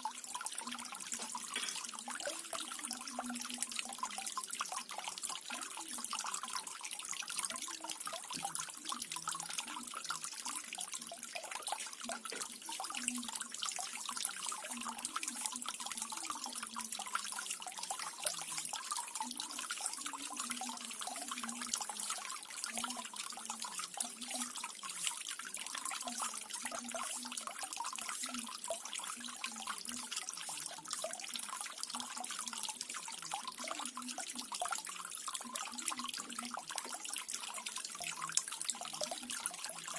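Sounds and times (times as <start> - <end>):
small waterfall trickling and splashing: 0.0 - 39.9.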